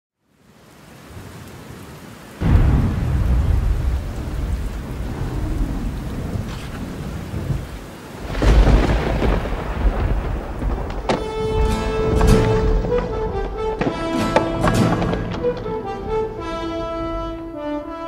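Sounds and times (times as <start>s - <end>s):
steady rain: 0.1s - 18.0s
thunder rumbling: 2.4s - 17.9s.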